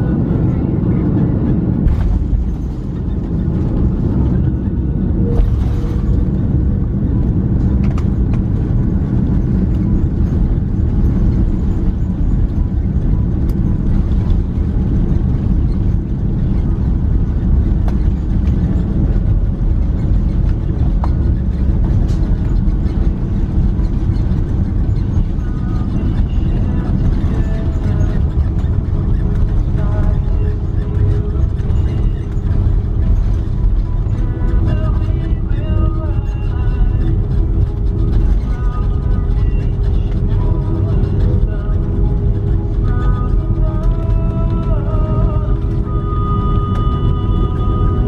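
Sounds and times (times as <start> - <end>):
jet engines and airflow rumble: 0.0 - 48.0.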